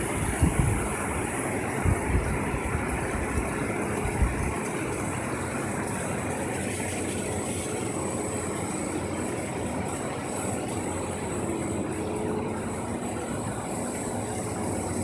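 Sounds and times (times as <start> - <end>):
machinery hum: 0.0 - 15.0
thin high whine: 0.0 - 15.0.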